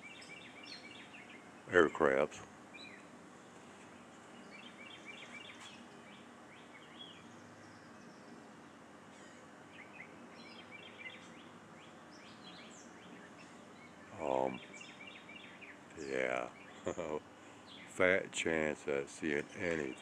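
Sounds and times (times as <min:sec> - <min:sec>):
low background hiss: 0:00.0 - 0:20.0
songbirds chirping: 0:00.0 - 0:20.0.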